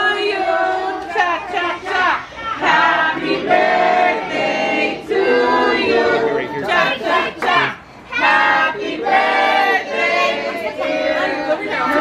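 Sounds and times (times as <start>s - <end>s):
group singing a celebration song: 0.0s - 12.0s.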